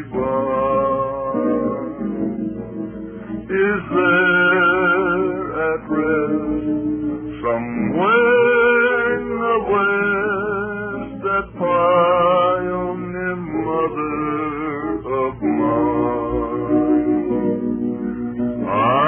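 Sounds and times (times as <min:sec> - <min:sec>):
man singing with vibrato: 0:00.0 - 0:02.7, 0:03.4 - 0:17.6, 0:18.6 - 0:19.0
acoustic guitar: 0:00.0 - 0:19.0.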